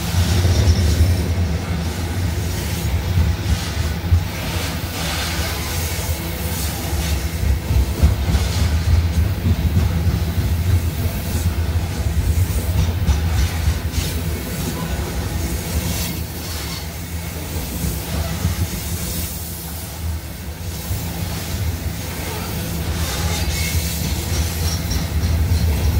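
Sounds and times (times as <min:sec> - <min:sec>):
freight train wheels rumbling on rail: 0:00.0 - 0:25.9
train clicks and clanks: 0:00.0 - 0:25.9.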